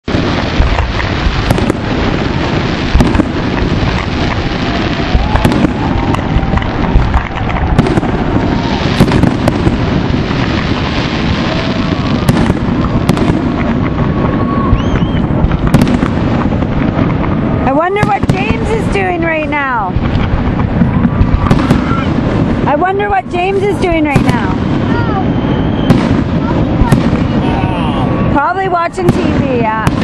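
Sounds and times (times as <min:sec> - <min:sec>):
rumble of crackle and thuds: 0:00.0 - 0:18.6, 0:19.8 - 0:22.7, 0:24.2 - 0:27.5
firework shells bursting: 0:00.1 - 0:27.4.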